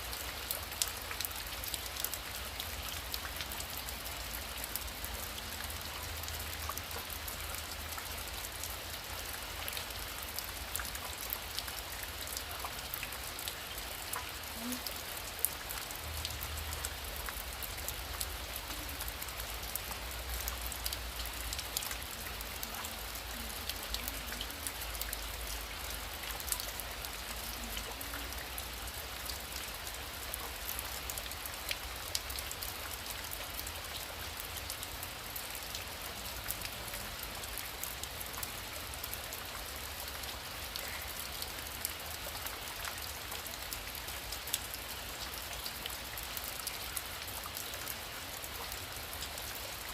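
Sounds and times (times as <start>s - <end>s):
heavy rain pouring: 0.0s - 49.9s
raindrops ticking on a surface: 0.0s - 49.9s.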